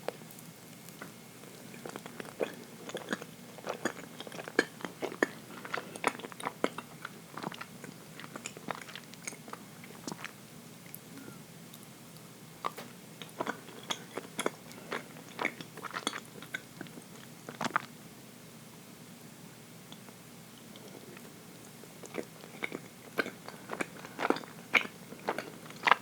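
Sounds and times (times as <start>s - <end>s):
person chewing cake: 0.1s - 11.8s, 12.6s - 17.9s, 19.9s - 26.0s.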